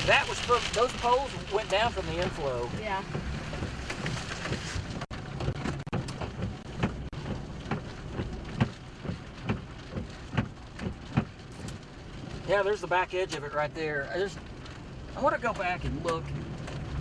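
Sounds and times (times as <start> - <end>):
rain drops tapping on vehicle: 0.0 - 17.0
rain hiss: 0.0 - 17.0.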